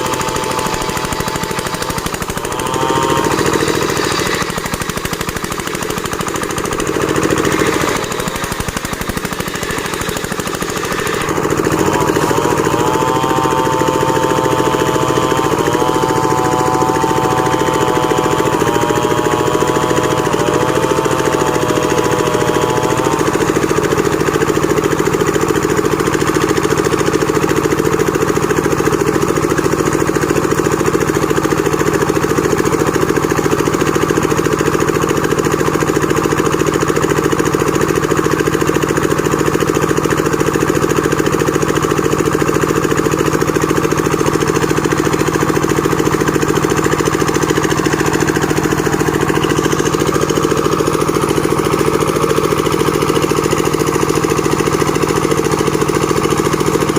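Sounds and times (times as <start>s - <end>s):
machine engine running: 0.0s - 56.9s.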